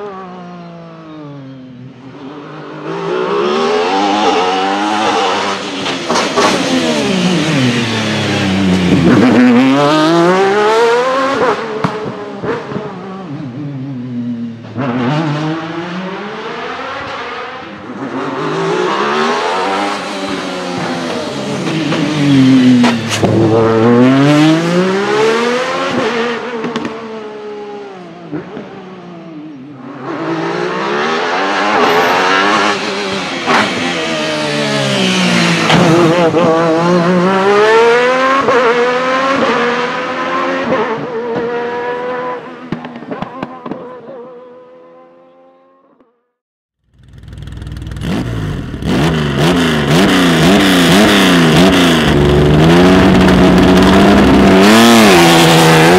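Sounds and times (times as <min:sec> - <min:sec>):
race car engine revving: 0:02.3 - 0:13.6, 0:14.6 - 0:28.7, 0:29.8 - 0:43.8, 0:47.0 - 0:55.9.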